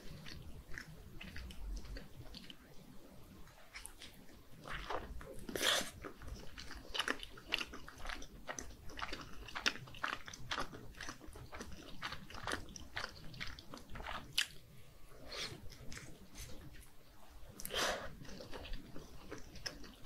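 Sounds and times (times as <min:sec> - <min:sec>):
biting and chewing food: 0:00.0 - 0:14.7, 0:15.3 - 0:20.0.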